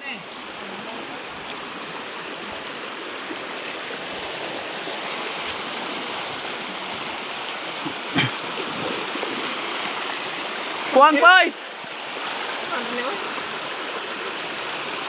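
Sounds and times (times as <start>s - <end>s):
stream water rushing over rocks: 0.0s - 15.0s.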